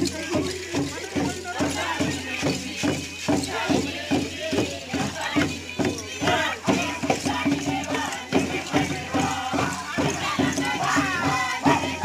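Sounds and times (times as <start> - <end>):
group of voices chanting: 0.0 - 12.0
hand drums beating: 0.0 - 12.0.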